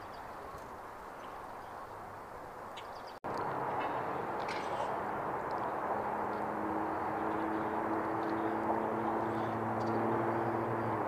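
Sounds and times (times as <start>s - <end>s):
rushing background noise: 0.0s - 11.0s
distant engine drone: 0.2s - 11.0s.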